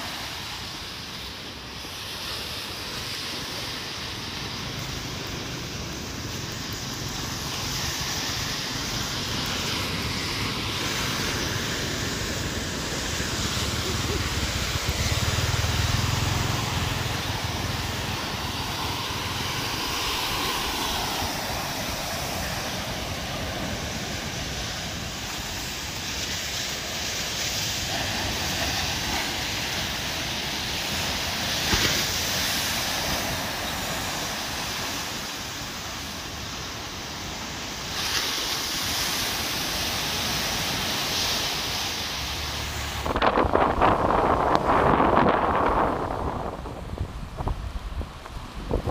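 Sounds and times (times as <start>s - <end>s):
heavy surf breaking: 0.0s - 48.9s
strong wind: 0.0s - 48.9s.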